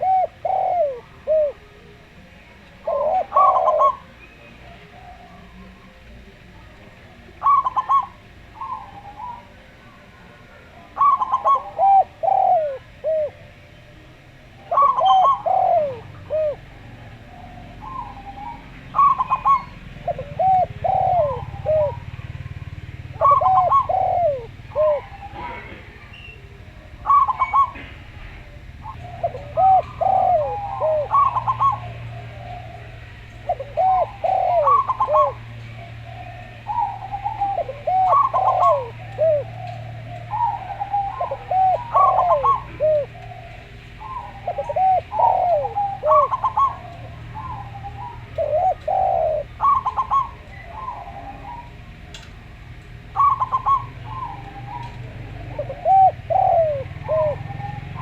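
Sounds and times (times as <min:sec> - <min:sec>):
doves cooing: 0:00.0 - 0:58.0
steady low hum: 0:00.0 - 0:58.0.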